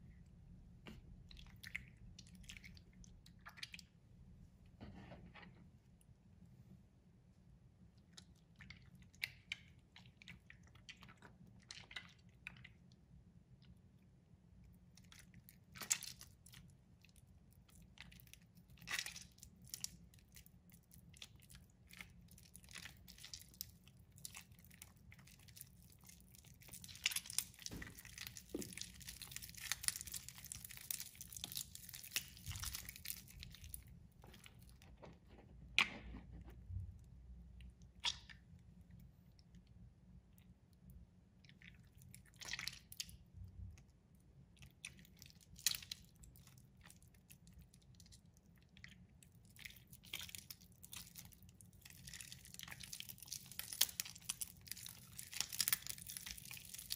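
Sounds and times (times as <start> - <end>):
wet soap crunching and crackling: 0.0 - 4.0, 7.8 - 56.9.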